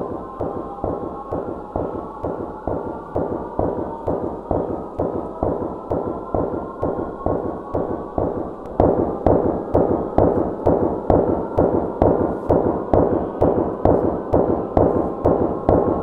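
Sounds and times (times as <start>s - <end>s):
high drone: 0.0s - 16.0s.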